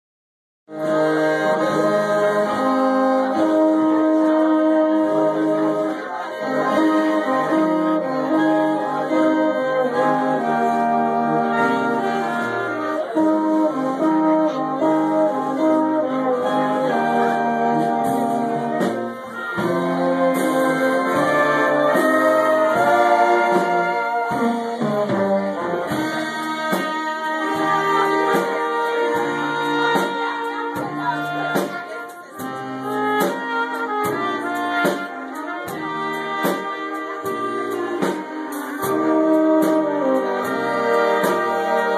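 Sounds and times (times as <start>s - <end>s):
brass instruments: 0.7s - 41.9s
oompah band playing: 0.7s - 41.9s.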